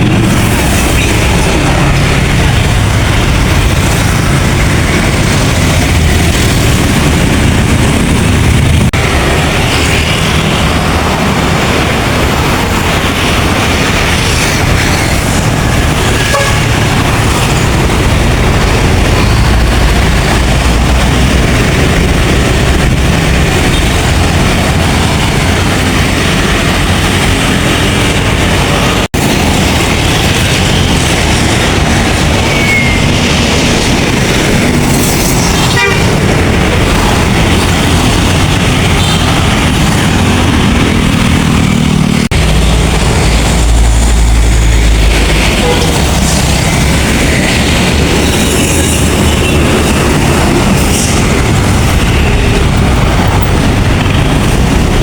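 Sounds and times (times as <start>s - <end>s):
buses driving past: 0.0s - 55.0s.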